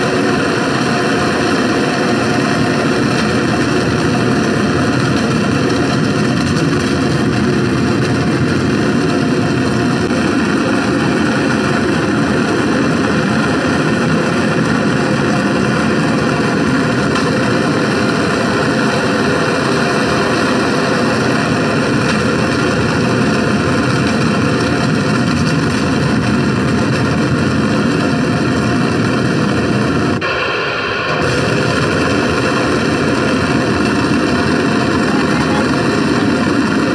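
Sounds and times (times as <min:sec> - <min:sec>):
rocket launch roar over loudspeakers: 0:00.0 - 0:36.9.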